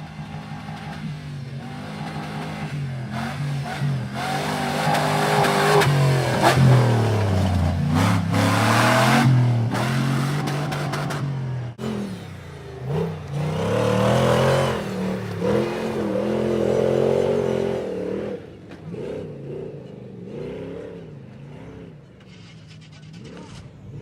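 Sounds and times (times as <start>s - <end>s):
truck engine revving: 0.0s - 19.7s.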